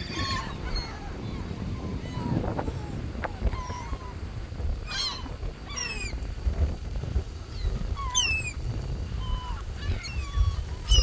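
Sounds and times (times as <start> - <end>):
gulls calling: 0.0 - 6.3, 7.3 - 11.0.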